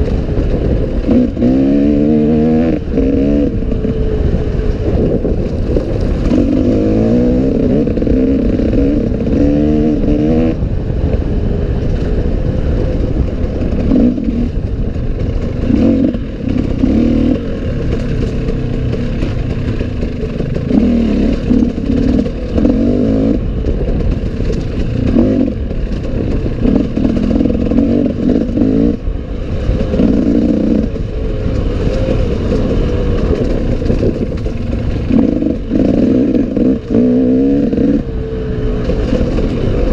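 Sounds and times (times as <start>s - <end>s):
dirt bike engine revving: 0.0s - 10.6s, 13.1s - 39.9s.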